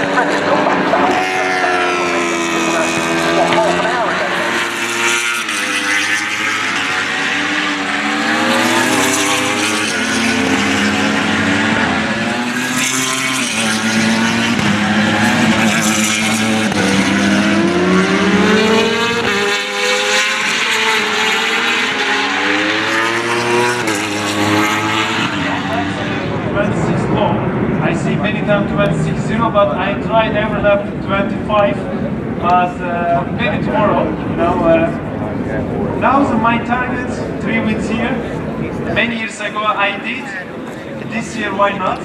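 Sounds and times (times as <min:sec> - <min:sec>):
racing motorcycles revving past: 0:00.0 - 0:42.0.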